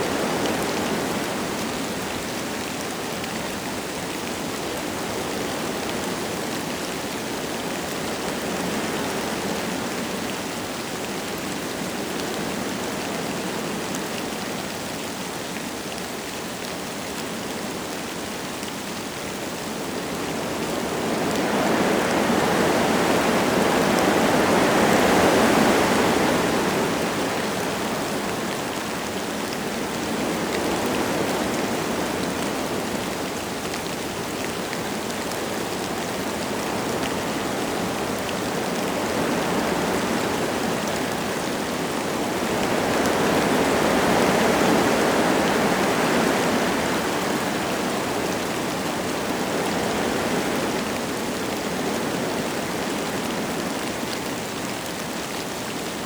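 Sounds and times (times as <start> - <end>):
light rain falling: 0.0 - 56.0
wind through forest trees: 0.0 - 56.0.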